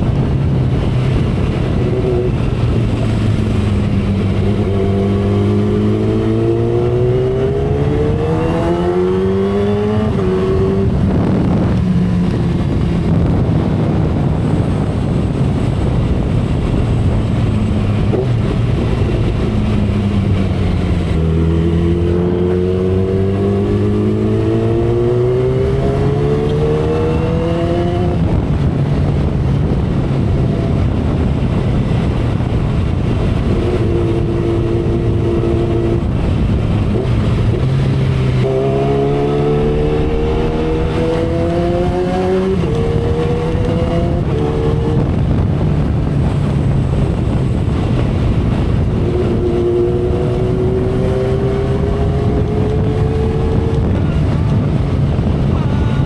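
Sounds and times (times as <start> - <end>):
quick gear upshifts: 0.0 - 55.8
motorcycle engine at speed: 0.0 - 56.0
wind rushing: 0.0 - 56.0.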